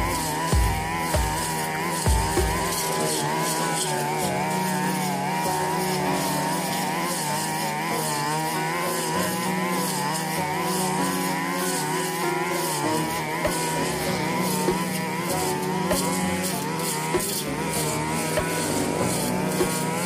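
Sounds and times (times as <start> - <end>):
brush cutter engine cutting grass: 0.0 - 20.0.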